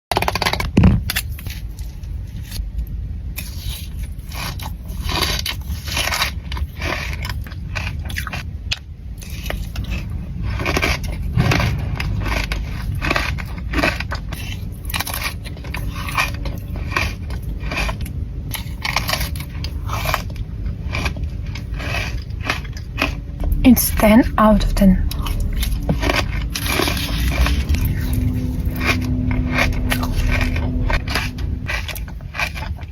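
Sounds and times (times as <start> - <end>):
wet chewing with crisp crackles: 0.1 - 23.5, 24.8 - 32.9.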